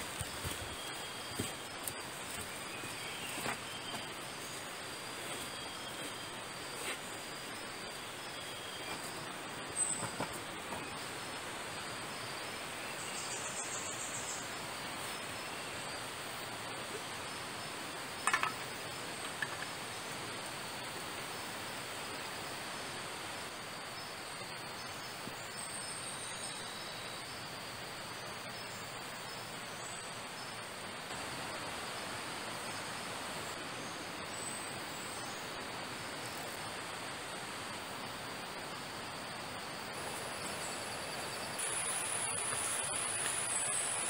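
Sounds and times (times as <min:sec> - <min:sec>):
insect trills: 0:00.0 - 0:44.0
insects buzzing: 0:00.0 - 0:44.0
steady forest hiss: 0:00.0 - 0:44.0.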